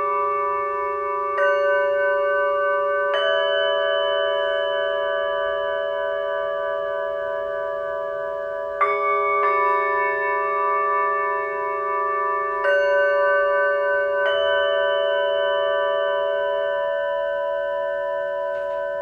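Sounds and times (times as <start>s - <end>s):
singing bowl strikes: 0.0s - 19.0s
singing bowls ringing: 0.0s - 19.0s.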